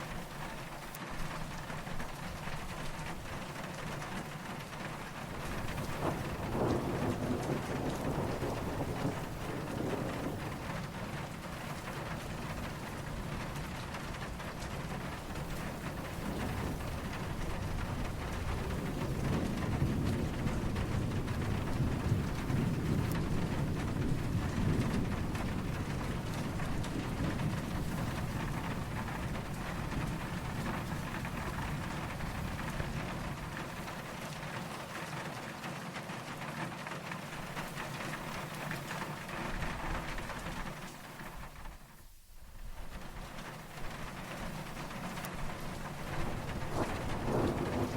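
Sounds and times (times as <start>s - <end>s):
distant thunder rumble: 0.0s - 47.9s
steady rain falling: 0.0s - 47.9s.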